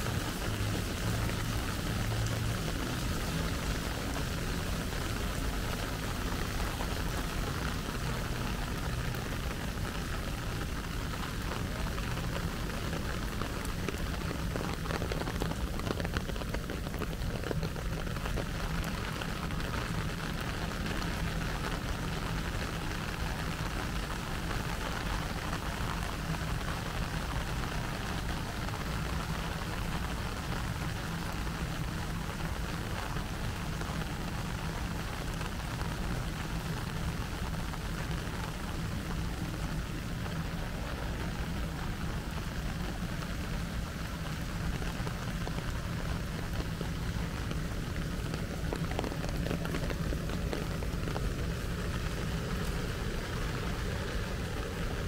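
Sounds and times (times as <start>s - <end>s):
low steady hum: 0.0s - 55.0s
steady rain falling: 0.0s - 55.0s.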